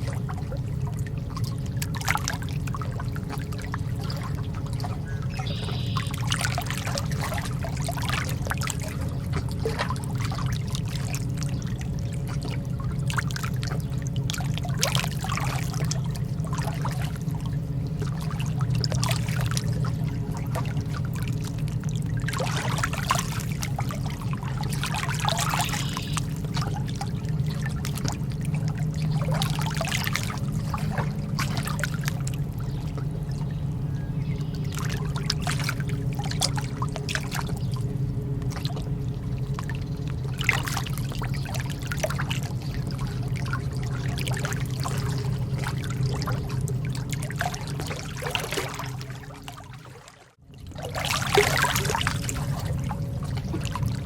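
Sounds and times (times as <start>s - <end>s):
lake water lapping at shore: 0.0s - 54.0s
steady low rumble: 0.0s - 54.0s.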